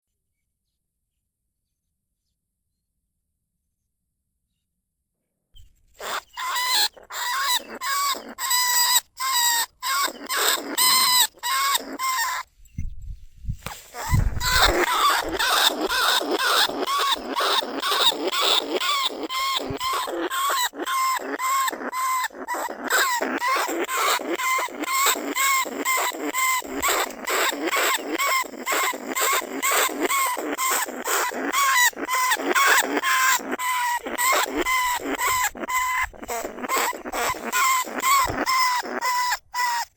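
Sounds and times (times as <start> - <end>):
rat squeaking: 5.6 - 12.8, 13.7 - 39.9.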